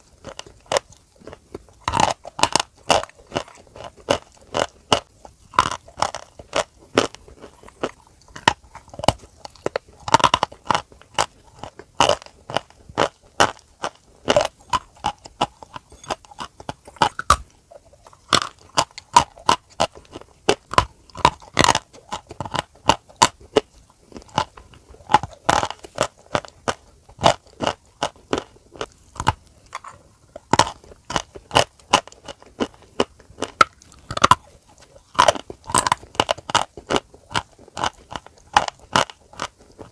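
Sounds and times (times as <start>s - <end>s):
biting and chewing chalky lumps: 0.0s - 39.9s.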